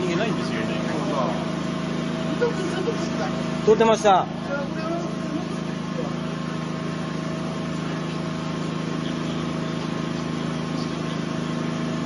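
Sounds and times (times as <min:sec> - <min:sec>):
engine-like drone: 0:00.0 - 0:12.0.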